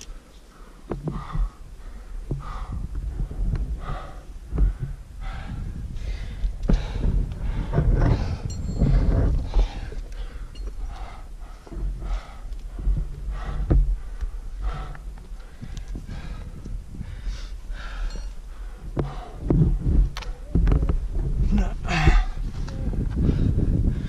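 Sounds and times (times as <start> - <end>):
person panting: 0.0 - 20.0, 21.5 - 24.0
low rumble: 0.0 - 24.0.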